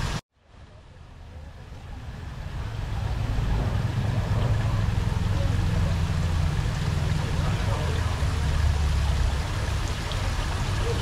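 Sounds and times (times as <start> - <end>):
waterfall rushing: 0.0 - 0.2, 1.2 - 11.0.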